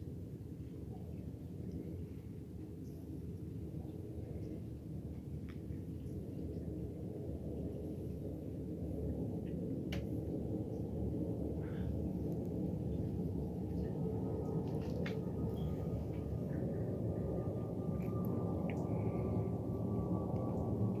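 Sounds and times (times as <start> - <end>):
aircraft engine rumble: 0.1 - 21.0.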